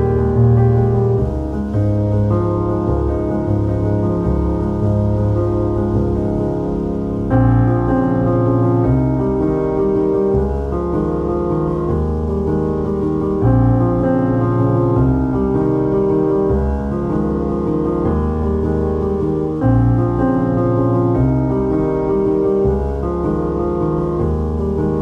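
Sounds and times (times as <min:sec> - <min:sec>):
bass line: 0:00.0 - 0:25.0
piano instrumental music: 0:00.0 - 0:25.0.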